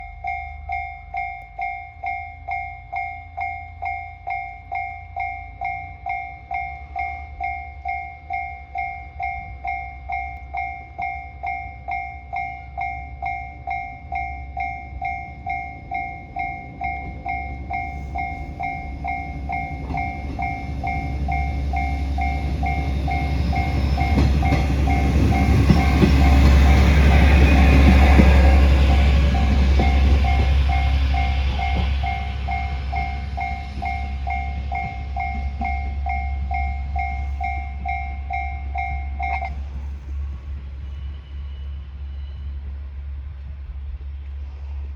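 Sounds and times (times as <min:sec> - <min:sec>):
level-crossing warning bell dinging: 0:00.0 - 0:39.8
diesel train rumble: 0:00.0 - 0:44.9.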